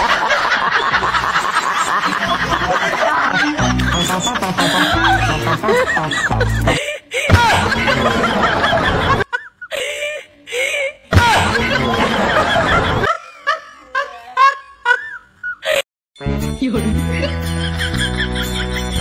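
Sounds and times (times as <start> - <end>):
people laughing: 0.0 - 15.8, 17.1 - 19.0.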